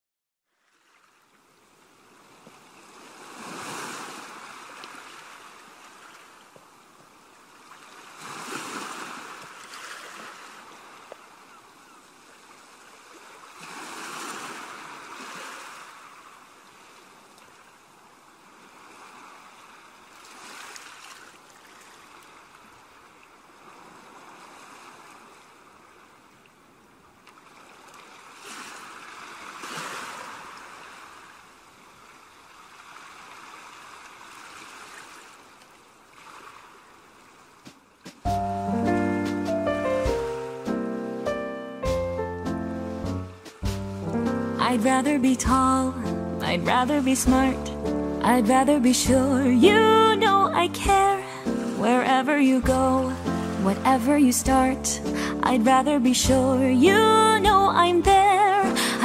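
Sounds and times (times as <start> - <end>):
ocean waves washing ashore: 0.6 - 59.0.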